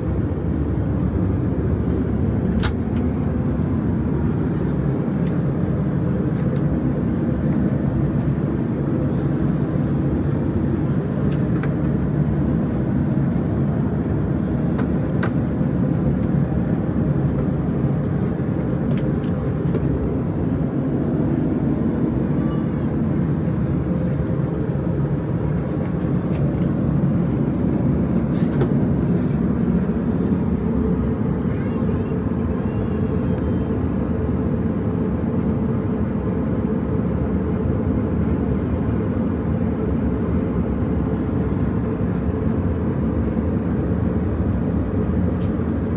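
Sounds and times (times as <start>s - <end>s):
airplane cabin engine and airflow: 0.0s - 45.9s.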